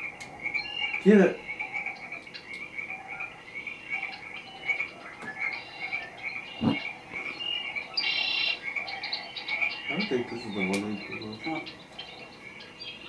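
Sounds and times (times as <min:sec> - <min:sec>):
frog croaking: 0:00.0 - 0:12.8
high chirps: 0:00.0 - 0:13.0.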